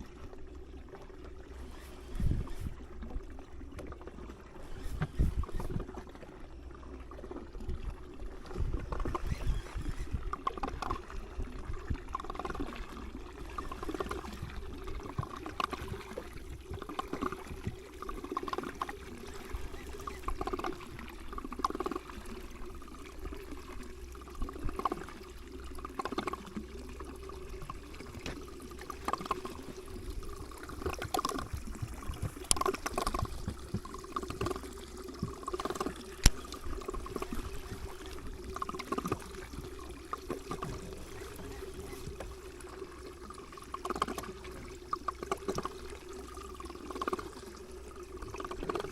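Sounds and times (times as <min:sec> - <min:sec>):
water lapping against boat hull: 0:00.0 - 0:48.9.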